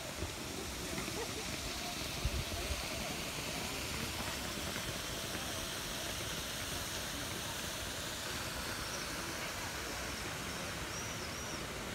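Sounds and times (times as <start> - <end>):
fountain water splashing: 0.0 - 11.9.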